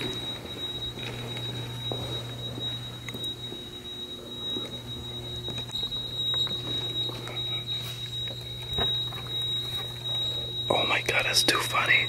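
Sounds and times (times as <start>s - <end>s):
footsteps: 0.0s - 10.2s
alarm high-pitched tone: 0.0s - 12.0s.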